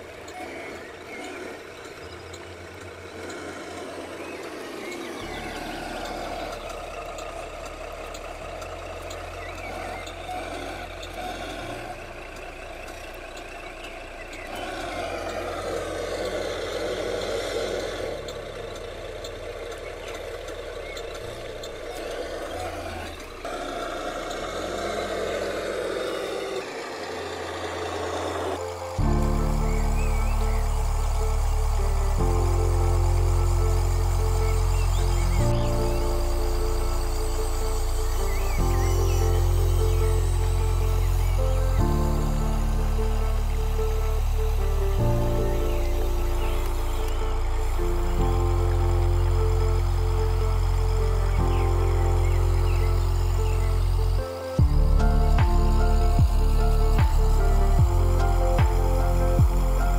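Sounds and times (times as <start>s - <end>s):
electric motor whine: 0.0s - 59.9s
low truck engine sound: 0.0s - 59.9s.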